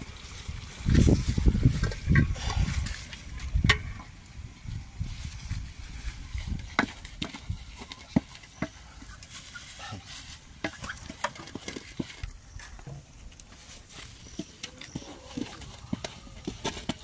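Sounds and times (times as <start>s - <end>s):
stick scraping and knocking pot: 0.9s - 4.1s, 6.2s - 17.0s.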